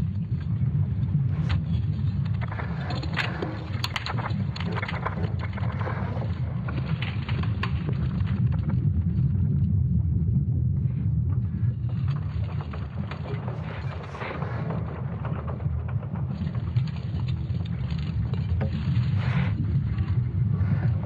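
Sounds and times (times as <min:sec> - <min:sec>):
crackling and creaking: 0:00.0 - 0:21.0
deep rumble: 0:00.0 - 0:21.0.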